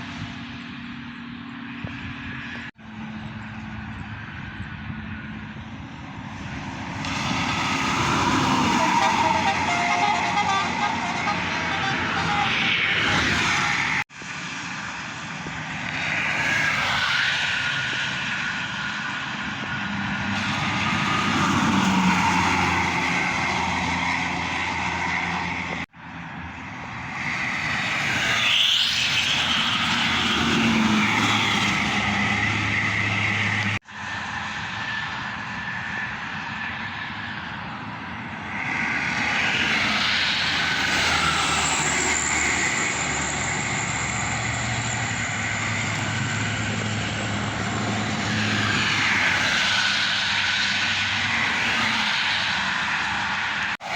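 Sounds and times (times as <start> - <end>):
highway traffic passing at speed: 0.0 - 53.9.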